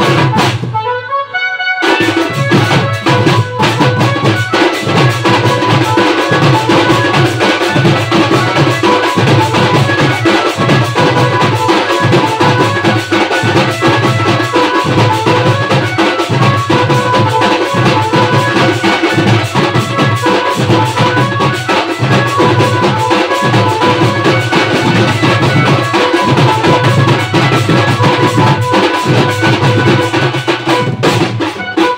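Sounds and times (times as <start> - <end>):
hand and stick drums: 0.0 - 31.9
sustained melody line: 0.8 - 31.9.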